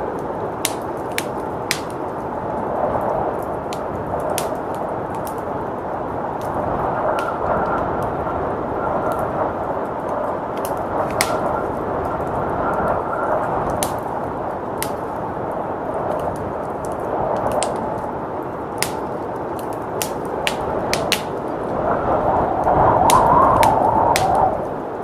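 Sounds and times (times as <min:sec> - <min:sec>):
blizzard wind rushing: 0:00.0 - 0:25.0
wood fire crackling and popping: 0:00.0 - 0:25.0.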